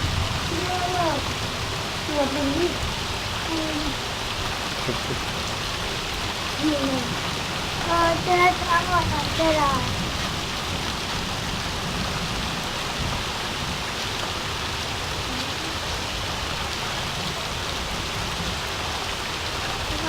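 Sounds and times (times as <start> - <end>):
heavy rain splashing: 0.0 - 20.0.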